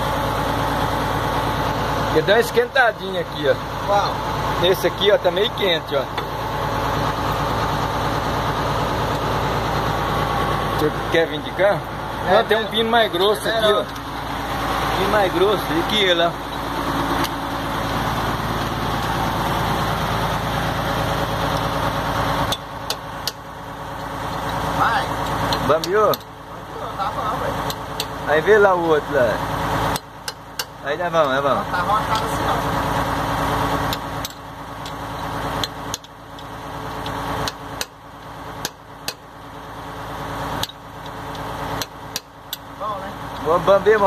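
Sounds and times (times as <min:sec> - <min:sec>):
engine-driven water pump running: 0:00.0 - 0:44.0.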